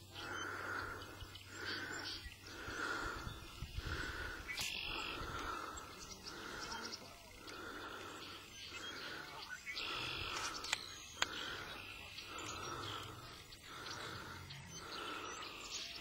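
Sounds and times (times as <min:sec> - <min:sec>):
bird chirps: 0:00.0 - 0:16.0.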